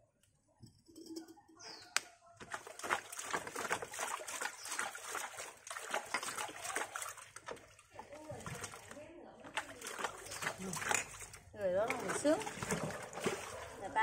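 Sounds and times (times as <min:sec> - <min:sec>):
water sloshing in plastic basin: 0:02.4 - 0:14.0.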